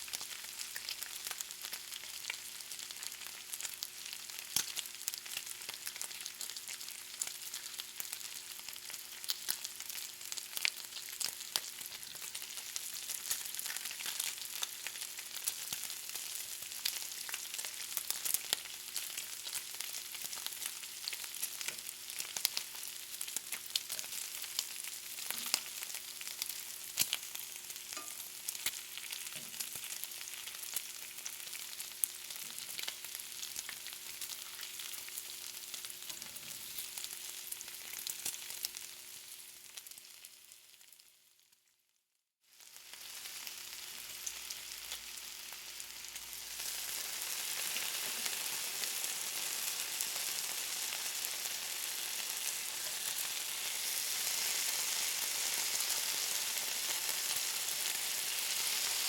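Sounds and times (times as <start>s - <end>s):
bacon sizzling in a pan: 0.0s - 41.6s, 42.4s - 59.0s.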